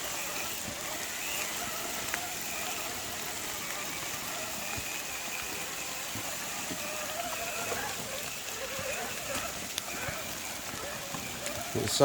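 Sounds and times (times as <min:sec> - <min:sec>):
rain on leaves and ground: 0:00.0 - 0:12.0
dripping ticks: 0:00.6 - 0:12.0.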